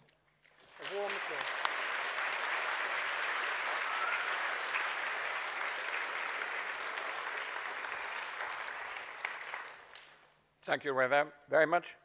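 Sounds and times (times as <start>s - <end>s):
audience applauding: 0.5s - 10.2s.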